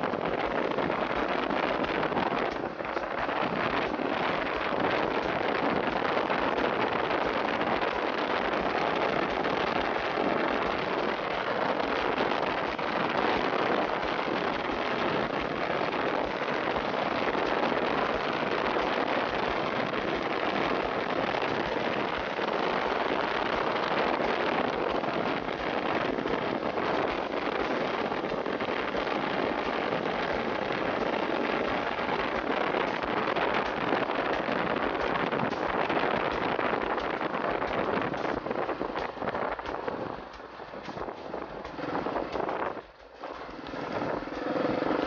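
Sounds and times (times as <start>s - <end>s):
motorcycle road noise: 0.0s - 45.0s
rushing wind: 0.0s - 45.0s.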